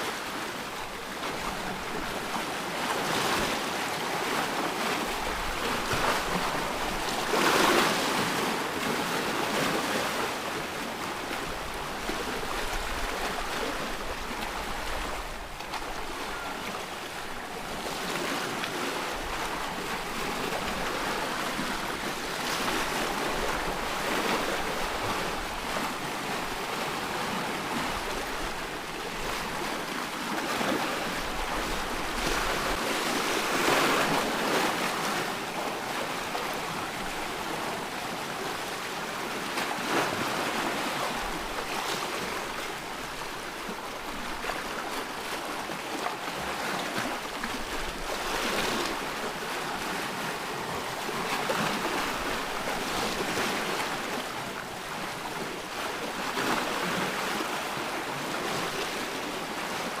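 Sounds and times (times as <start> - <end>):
ocean waves breaking: 0.0 - 60.0.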